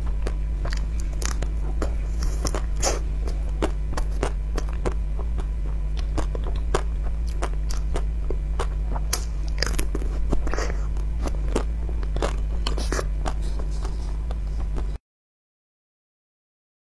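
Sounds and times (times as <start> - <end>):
steady low hum: 0.0 - 15.0
wet chewing and crunches: 0.0 - 15.0.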